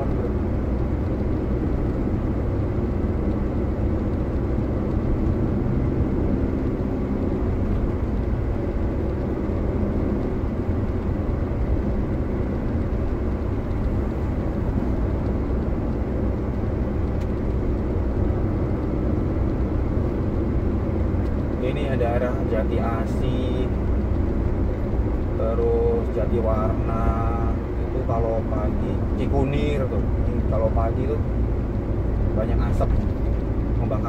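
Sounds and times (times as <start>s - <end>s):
engine and road noise in cab: 0.0s - 34.0s.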